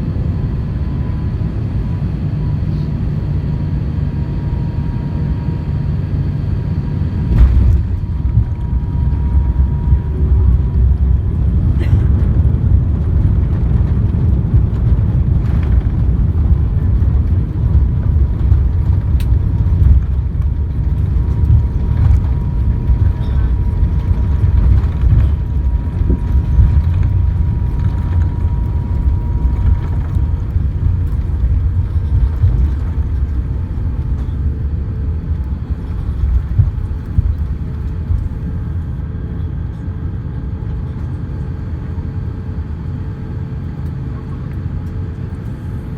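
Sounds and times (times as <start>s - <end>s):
airliner cabin low rumble: 0.0s - 45.9s.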